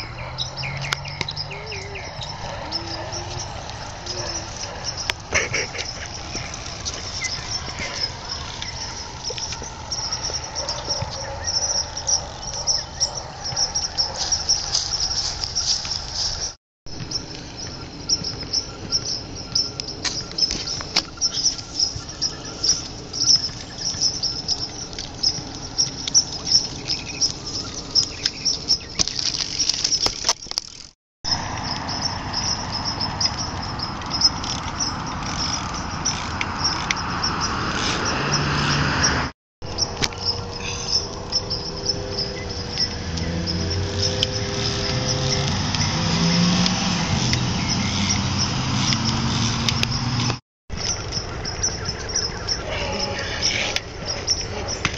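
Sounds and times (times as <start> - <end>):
crickets chirping: 0.0 - 30.3, 31.3 - 38.8, 39.7 - 50.2.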